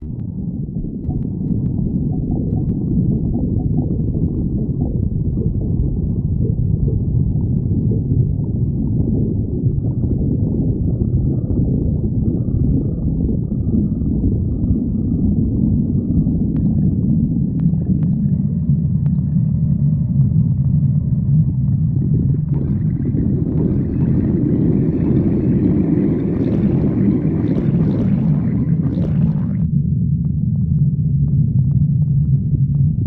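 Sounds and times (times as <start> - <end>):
stomach growling: 0.0 - 33.0.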